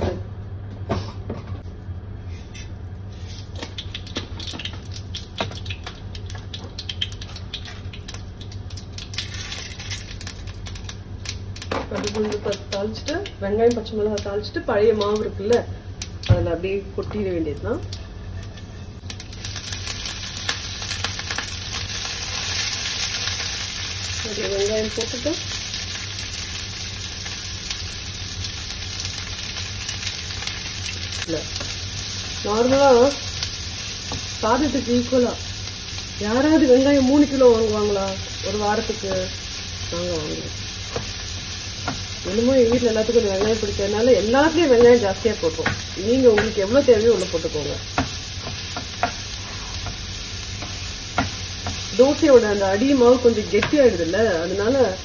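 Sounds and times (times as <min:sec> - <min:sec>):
steady low hum: 0:00.0 - 0:55.0
dense sizzle: 0:01.7 - 0:55.0
seeds popping in hot oil: 0:03.5 - 0:55.0.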